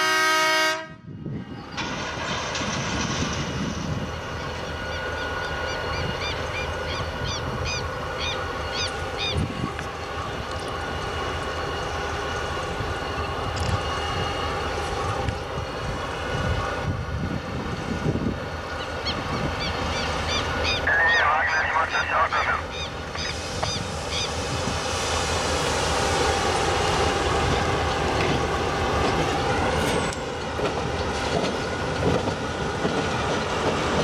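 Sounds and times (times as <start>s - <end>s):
diesel locomotive engines running: 0.0s - 34.0s
wheels rumbling on rails: 1.2s - 20.8s, 25.8s - 34.0s.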